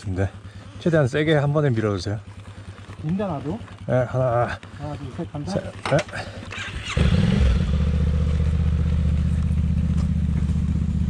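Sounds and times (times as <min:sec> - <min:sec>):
motorcycle engine starting and running: 0:00.0 - 0:11.0.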